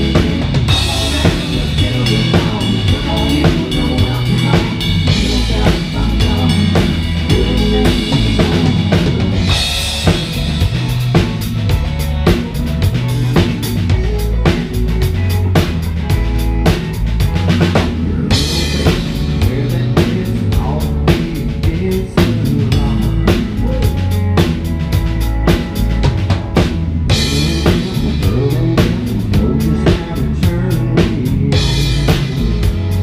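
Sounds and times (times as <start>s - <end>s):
drum kit beating: 0.0s - 33.0s
electric guitar: 0.0s - 33.0s.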